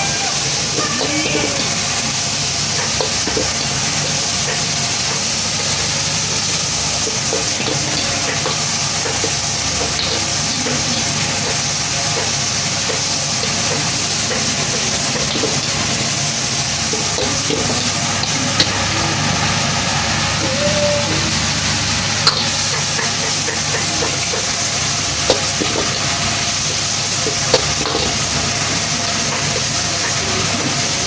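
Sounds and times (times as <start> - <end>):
food sizzling in a wok: 0.0 - 31.0.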